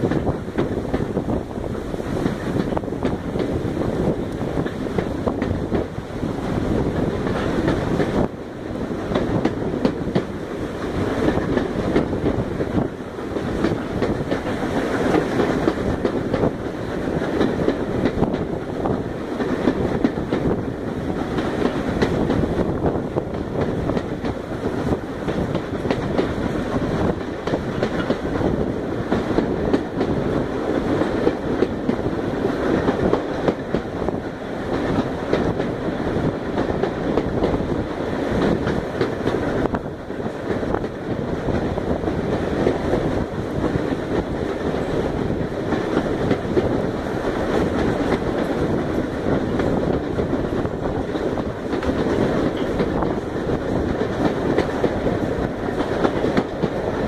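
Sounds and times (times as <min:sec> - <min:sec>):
train wheels rumbling on rails: 0:00.0 - 0:57.0
wheels clicking over rail joints: 0:00.0 - 0:57.0.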